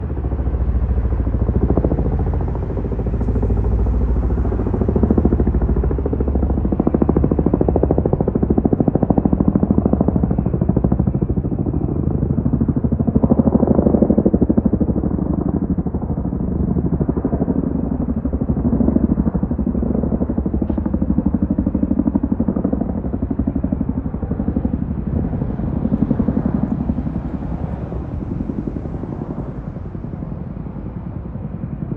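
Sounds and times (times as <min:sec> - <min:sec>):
deep engine noise: 0:00.0 - 0:13.2, 0:15.7 - 0:31.9
helicopter rotor chop: 0:00.0 - 0:31.9.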